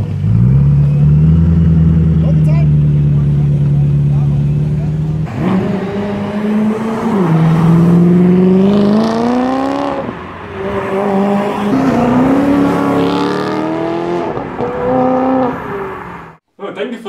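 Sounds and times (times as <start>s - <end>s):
sports car accelerating hard: 0.0s - 16.4s.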